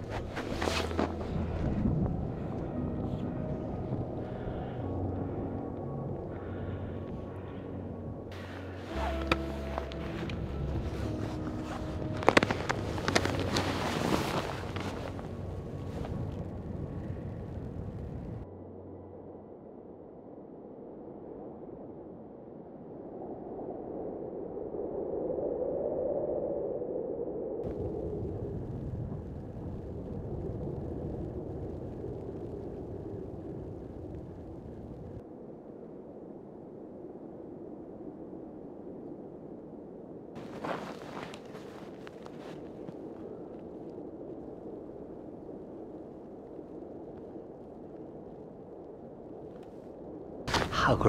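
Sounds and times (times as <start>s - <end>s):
wind on microphone: 0.0s - 18.5s, 21.2s - 51.0s.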